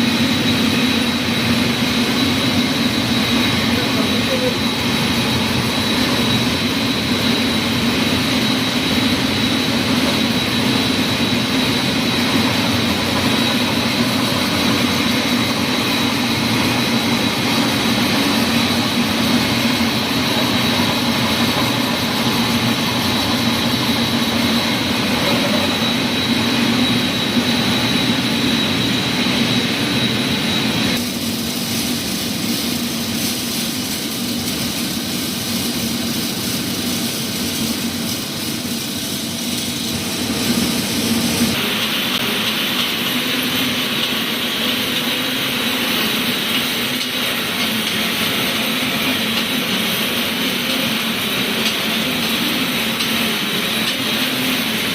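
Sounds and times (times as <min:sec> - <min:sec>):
high steady machine whine: 0:00.0 - 0:54.9
machinery humming: 0:00.0 - 0:54.9.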